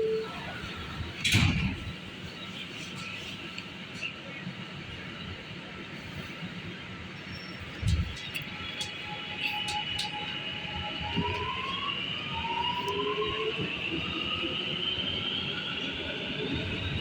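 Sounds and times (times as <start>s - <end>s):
subway train propulsion whine: 0.0s - 17.0s
wheels rumbling on rails: 0.0s - 17.0s.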